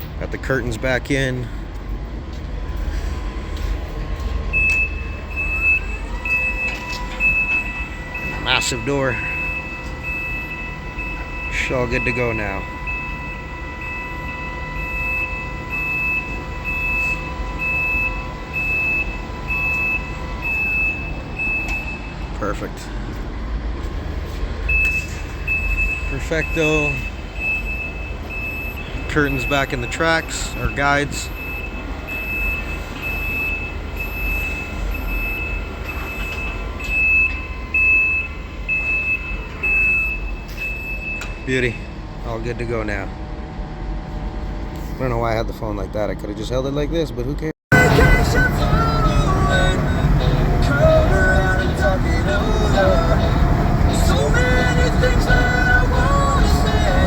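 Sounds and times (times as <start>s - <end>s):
low mechanical rumble: 0.0s - 57.0s
rolling door motor humming: 1.5s - 44.8s, 47.7s - 57.0s
electronic warning beeper: 3.6s - 22.9s, 24.7s - 43.1s, 47.7s - 57.0s.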